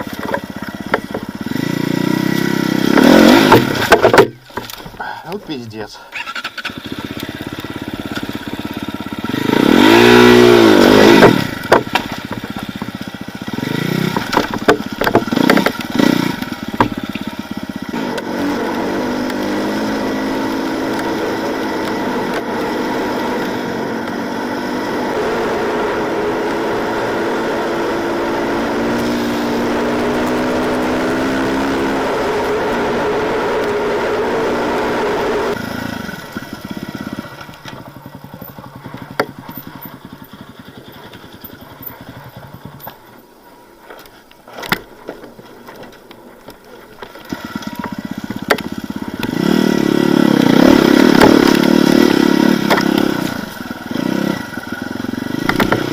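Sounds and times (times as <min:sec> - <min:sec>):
motorcycle engine revving: 0:00.0 - 0:04.1, 0:06.3 - 0:39.0, 0:47.2 - 0:55.9.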